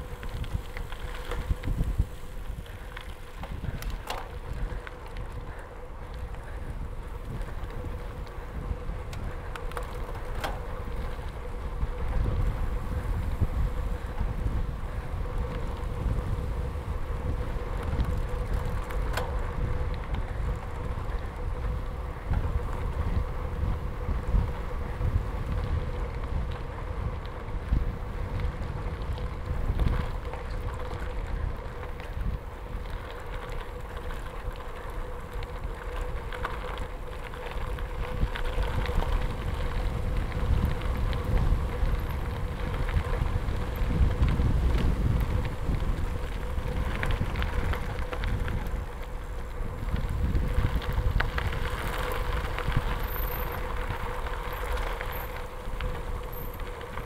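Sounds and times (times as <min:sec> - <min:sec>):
bicycle tyres on gravel: 0:00.0 - 0:57.0
wind on microphone: 0:00.0 - 0:57.0.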